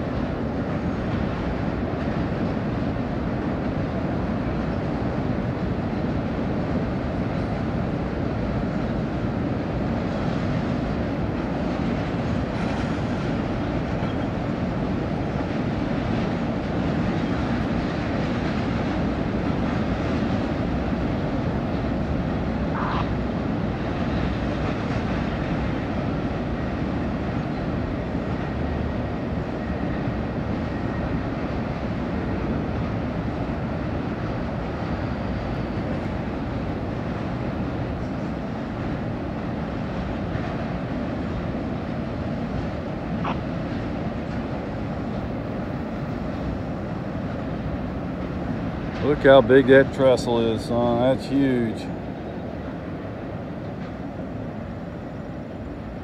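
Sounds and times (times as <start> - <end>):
freight train rolling over bridge: 0.0 - 56.0.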